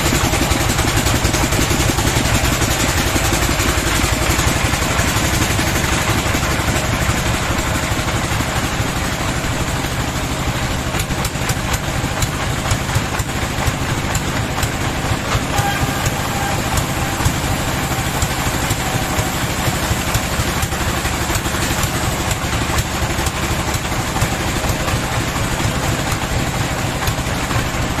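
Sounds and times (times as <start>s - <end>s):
sawmill machinery droning: 0.0s - 28.0s.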